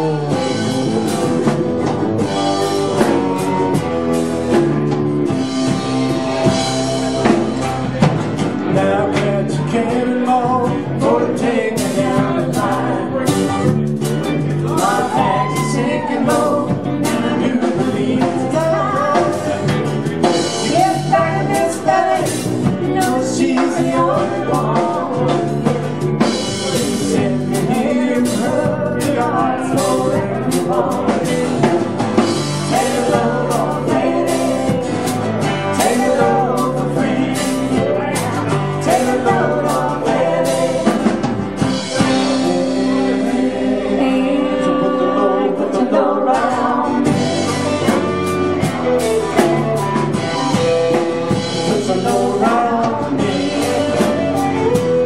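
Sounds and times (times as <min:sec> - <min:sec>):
drum kit: 0:00.0 - 0:55.0
guitars: 0:00.0 - 0:55.0
person singing: 0:00.0 - 0:55.0.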